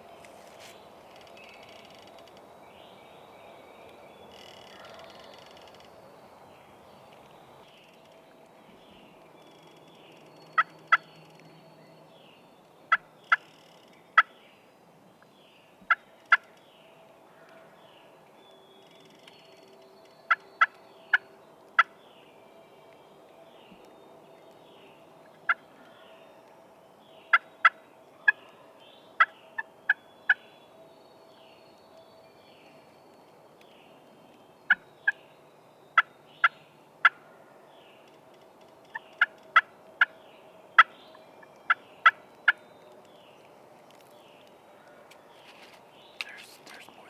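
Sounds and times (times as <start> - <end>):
small birds chirping faintly: 0.0 - 47.0.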